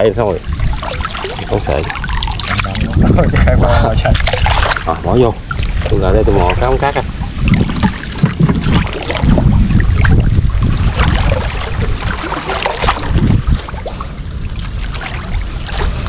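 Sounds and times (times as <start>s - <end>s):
water sloshing and splashing: 0.0s - 16.0s
wind rumble on microphone: 0.0s - 16.0s.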